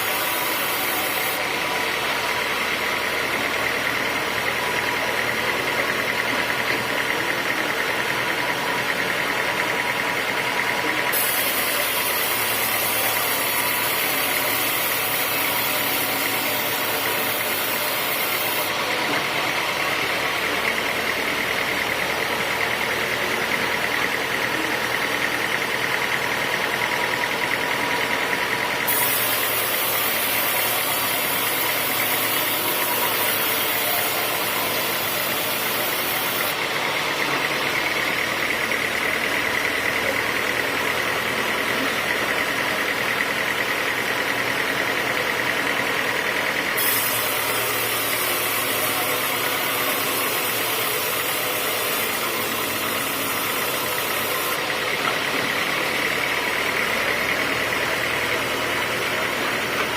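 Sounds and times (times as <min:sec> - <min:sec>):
saw high whine: 0:00.0 - 0:44.0, 0:46.5 - 0:59.9
saw engine running: 0:00.0 - 0:59.9.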